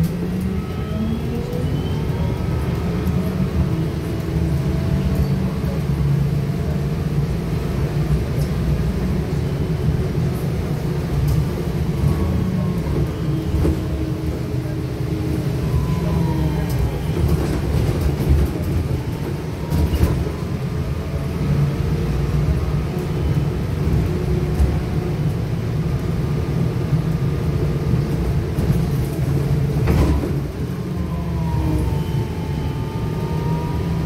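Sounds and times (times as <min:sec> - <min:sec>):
trolleybus rumble: 0:00.0 - 0:34.0.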